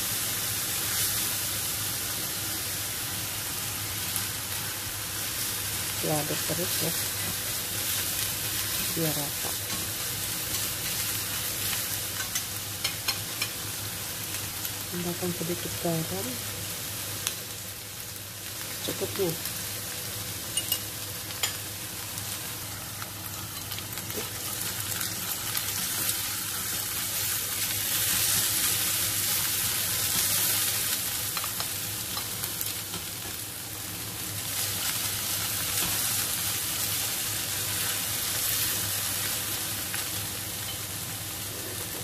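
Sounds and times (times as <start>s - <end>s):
food sizzling in frying pan: 0.0s - 42.0s.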